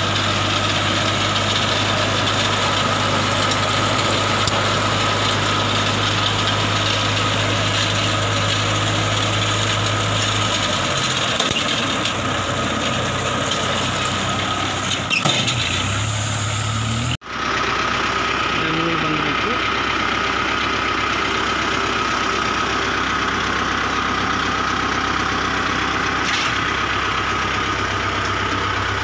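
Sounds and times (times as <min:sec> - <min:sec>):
engine running: 0:00.0 - 0:29.0
straw baler working: 0:00.0 - 0:29.0.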